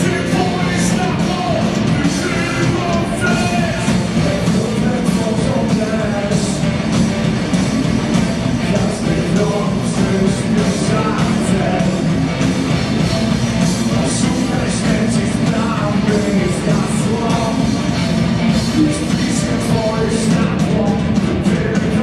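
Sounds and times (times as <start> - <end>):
man singing: 0.0 - 6.8, 8.6 - 12.4, 13.9 - 22.0
live rock band playing: 0.0 - 22.0.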